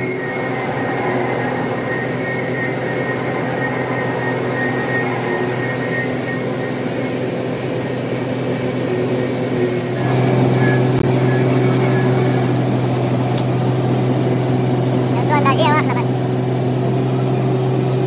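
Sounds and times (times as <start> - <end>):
metal lathe humming and whining: 0.0 - 18.0.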